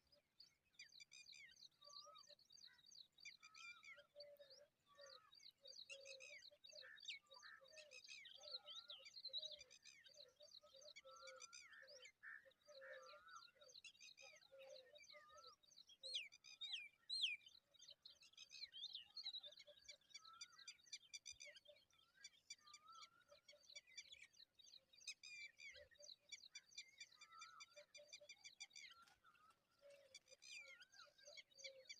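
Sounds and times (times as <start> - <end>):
birds chirping and trilling: 0.0 - 31.9.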